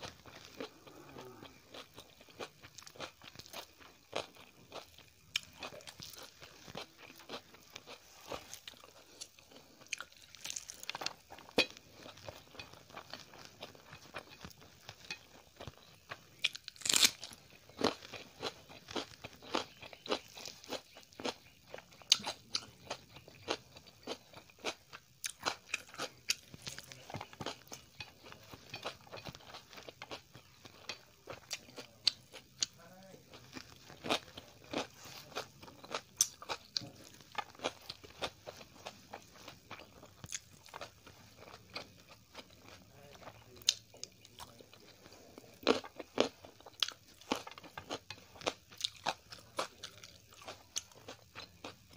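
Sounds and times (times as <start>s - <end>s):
chewing with crunches: 0.0s - 51.9s.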